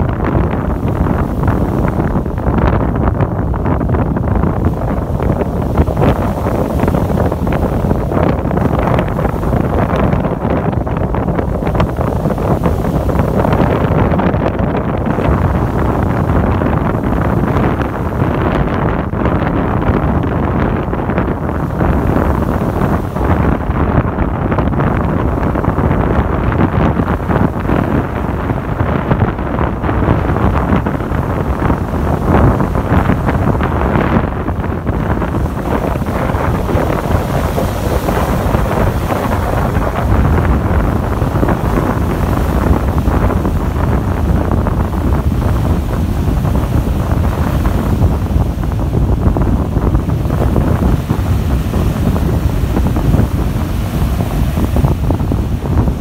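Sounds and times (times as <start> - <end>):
sea waves breaking: 0.0 - 56.0
wind rumbling on microphone: 0.0 - 56.0.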